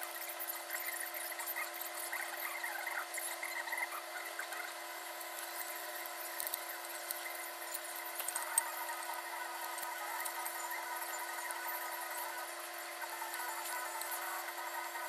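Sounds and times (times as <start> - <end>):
steady high hum: 0.0 - 15.0.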